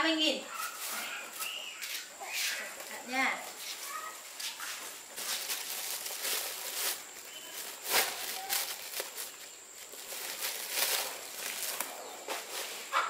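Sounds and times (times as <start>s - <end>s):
plastic bag rustling and crinkling: 0.5s - 13.0s.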